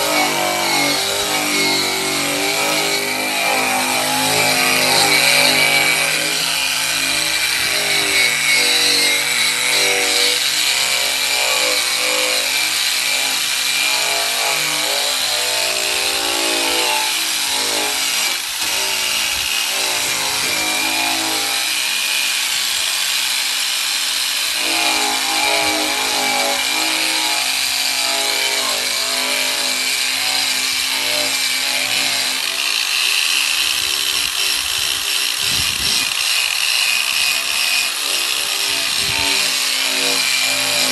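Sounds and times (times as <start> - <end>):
drum sander on sheet steel: 0.0 - 40.9.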